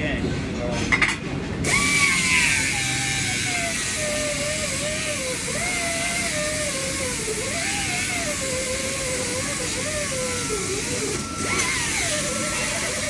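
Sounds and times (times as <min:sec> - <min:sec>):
angle grinder grinding steel: 0:01.7 - 0:13.0.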